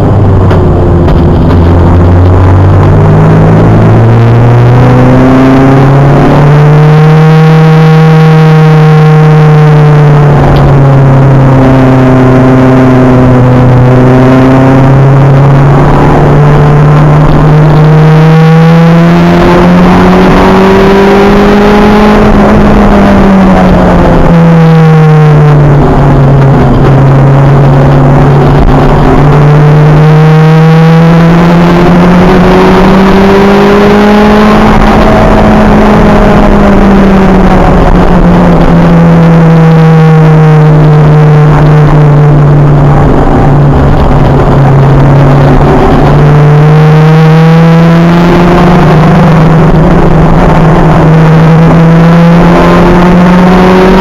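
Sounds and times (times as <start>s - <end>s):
race car engine at full load: 0.0s - 54.0s.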